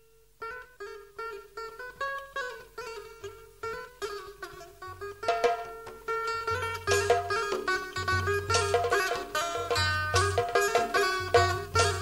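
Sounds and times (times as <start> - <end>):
plucked-string melody: 0.0 - 12.0.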